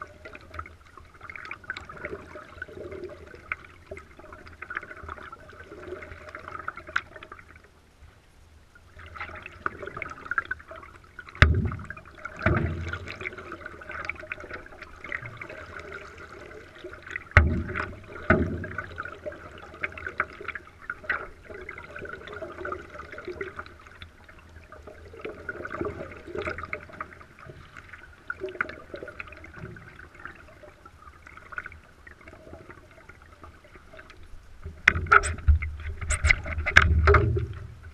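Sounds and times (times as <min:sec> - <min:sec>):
water gurgling against paddleboard: 0:00.0 - 0:07.6, 0:08.9 - 0:37.9.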